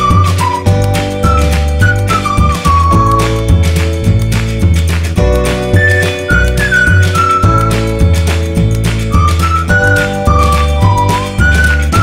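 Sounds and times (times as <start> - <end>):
light upbeat music: 0.0 - 12.0.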